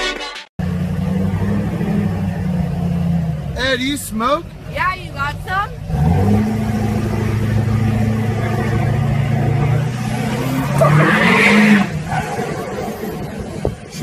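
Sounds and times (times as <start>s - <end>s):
vehicle engine revving: 0.6s - 14.0s.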